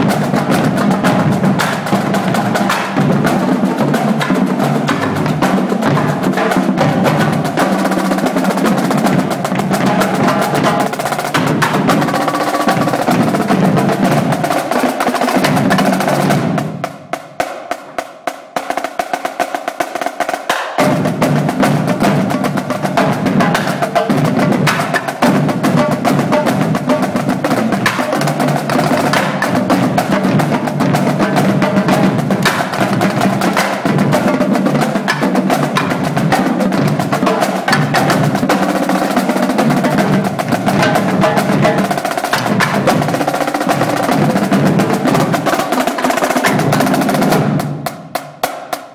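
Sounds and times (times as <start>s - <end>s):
marching drumline playing: 0.0s - 48.9s.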